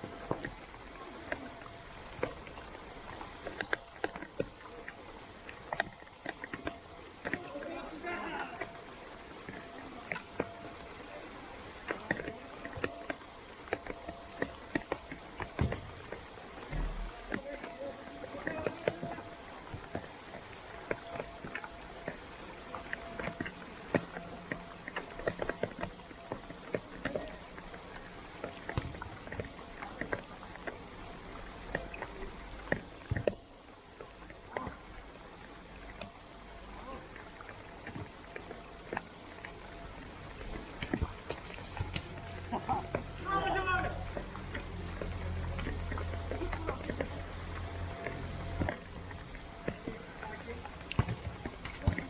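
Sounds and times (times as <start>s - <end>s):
raindrops ticking and tapping: 0.0s - 52.0s
steady rain hiss: 0.0s - 52.0s.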